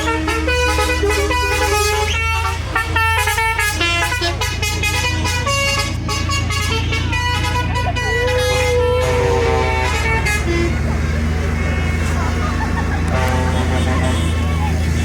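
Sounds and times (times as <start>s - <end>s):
horn-like notes changing pitch: 0.0s - 15.0s
tractor engines droning: 0.0s - 15.0s.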